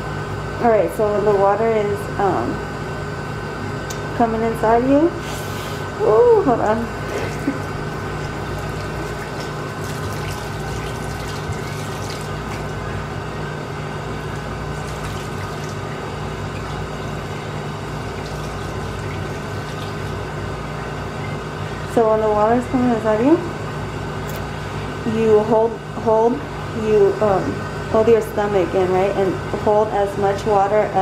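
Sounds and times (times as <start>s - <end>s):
machine humming: 0.0s - 31.0s
water flowing through machine: 4.2s - 23.6s, 24.3s - 31.0s.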